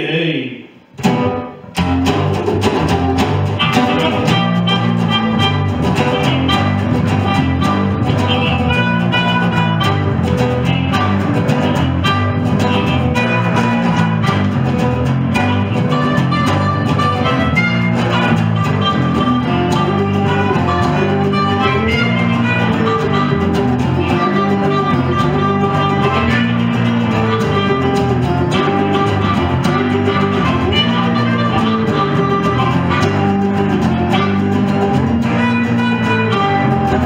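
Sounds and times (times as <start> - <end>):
resonator guitar: 0.9 - 37.0
electric guitar riff: 1.0 - 37.0
harmonica wailing: 3.0 - 37.0.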